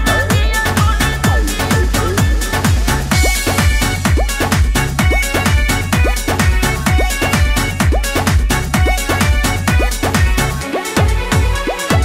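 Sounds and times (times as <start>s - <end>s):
electronic dance beat: 0.0s - 12.0s
low pitch-dropping drum strokes: 0.0s - 12.0s.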